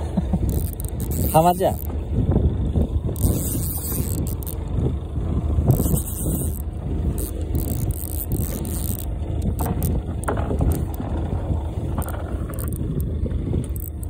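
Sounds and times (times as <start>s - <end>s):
boat engine rumble: 0.0s - 14.0s
water noise: 0.0s - 14.0s.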